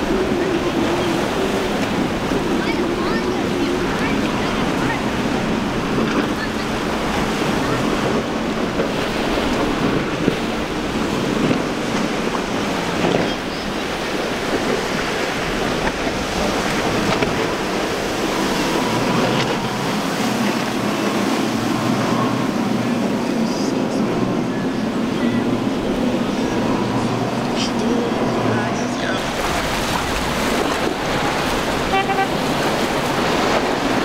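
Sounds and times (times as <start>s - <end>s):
outboard boat engines running: 0.0s - 34.0s
waves breaking: 0.0s - 34.0s
wind buffeting microphone: 0.0s - 34.0s.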